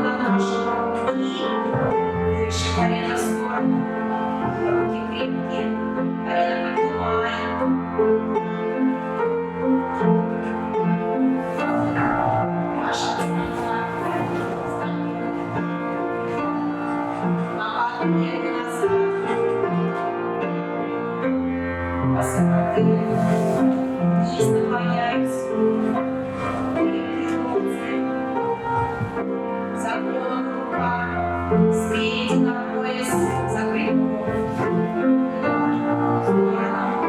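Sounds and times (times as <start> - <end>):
instrumental music with held notes: 0.0 - 37.0.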